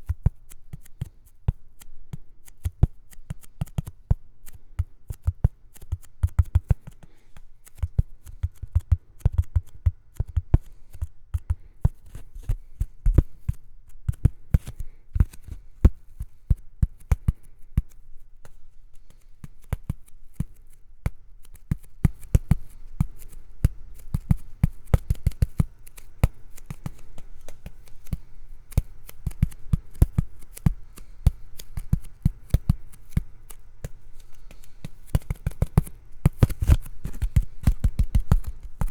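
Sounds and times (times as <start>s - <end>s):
sharp taps and clicks: 2.6s - 11.6s, 12.4s - 38.9s.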